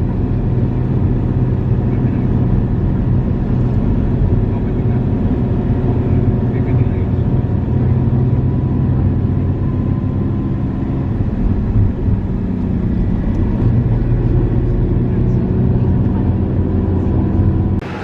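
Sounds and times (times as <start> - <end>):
motor vehicle engine rumble: 0.0 - 18.0.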